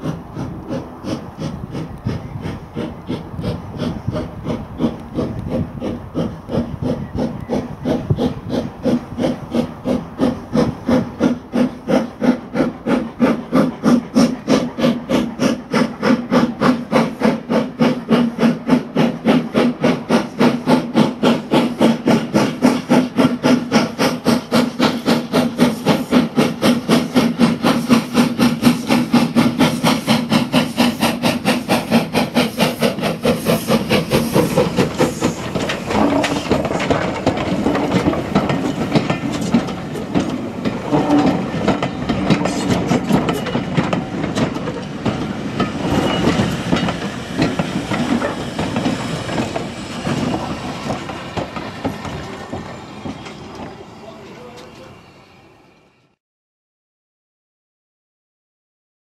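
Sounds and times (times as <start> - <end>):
steam hiss: 0.0 - 54.8
steam locomotive chuffing: 0.0 - 56.2.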